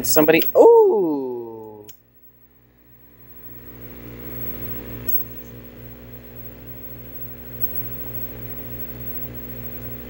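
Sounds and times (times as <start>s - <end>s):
television electrical hum: 0.0s - 10.0s
throbbing electrical buzz: 1.9s - 10.0s.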